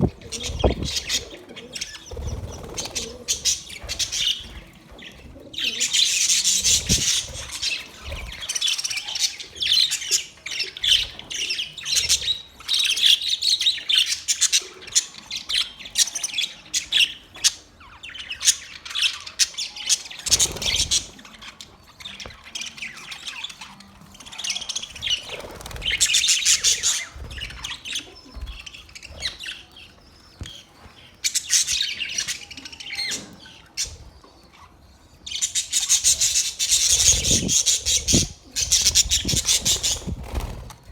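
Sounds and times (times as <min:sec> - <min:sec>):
budgerigars chattering: 0:00.0 - 0:30.6, 0:31.3 - 0:40.8.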